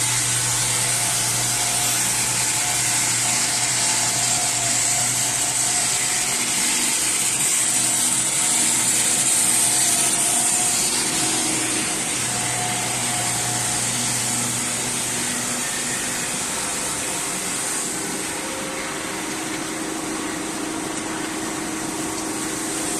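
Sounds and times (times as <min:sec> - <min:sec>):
power grinder buffing rubber tire: 0:00.0 - 0:22.9.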